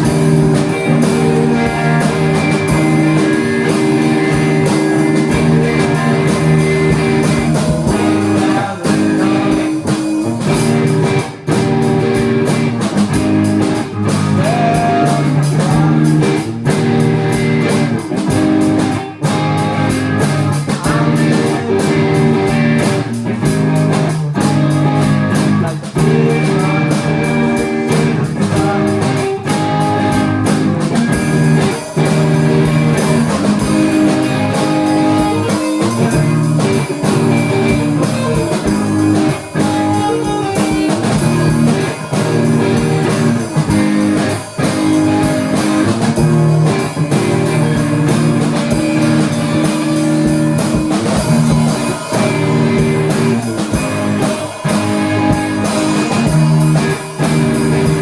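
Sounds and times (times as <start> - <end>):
drum hits: 0.0 - 58.0
live rock band playing: 0.0 - 58.0.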